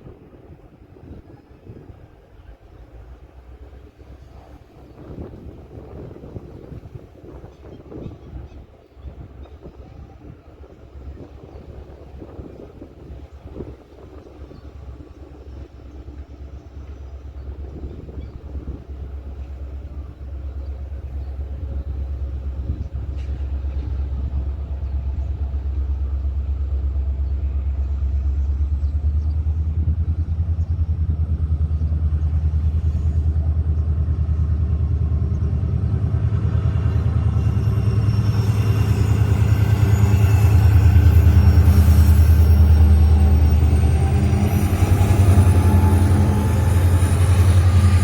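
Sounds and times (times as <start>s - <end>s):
train locomotive rumble: 0.0s - 48.0s.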